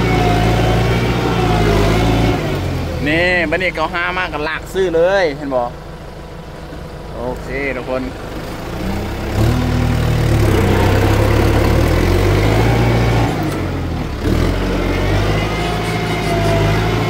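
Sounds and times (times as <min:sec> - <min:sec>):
tractor diesel engine running hard: 0:00.0 - 0:17.0.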